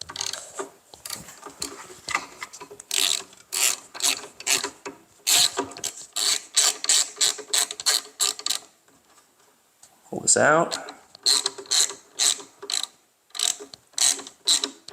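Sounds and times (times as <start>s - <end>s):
hand ratchet strokes: 0.0s - 8.7s, 10.7s - 14.9s.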